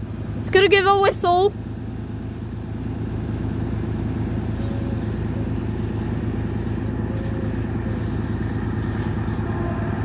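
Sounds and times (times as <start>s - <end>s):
diesel train engine running: 0.0s - 10.0s.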